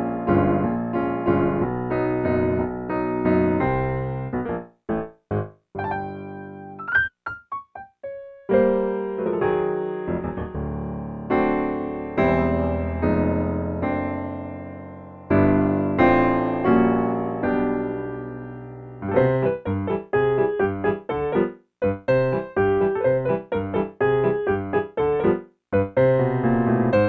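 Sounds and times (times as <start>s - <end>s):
solo piano: 0.0s - 27.0s.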